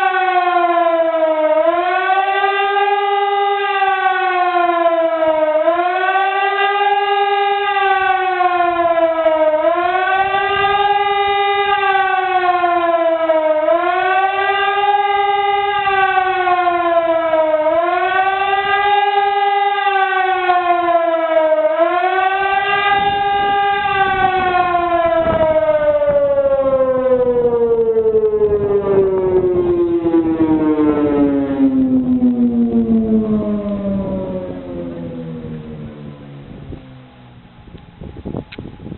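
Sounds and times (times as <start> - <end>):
electronic warning siren wailing: 0.0 - 38.9.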